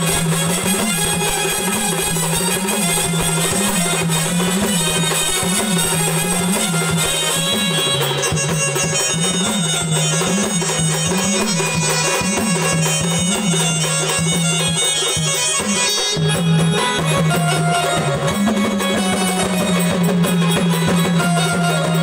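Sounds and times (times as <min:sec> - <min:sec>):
drums: 0:00.0 - 0:22.0
reedy folk melody: 0:00.0 - 0:22.0.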